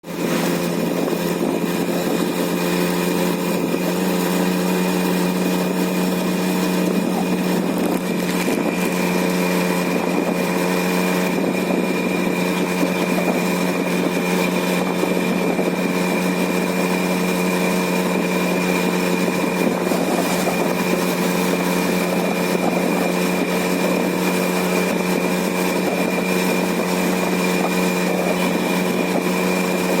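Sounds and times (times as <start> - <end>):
moped engine running: 0.0 - 30.0.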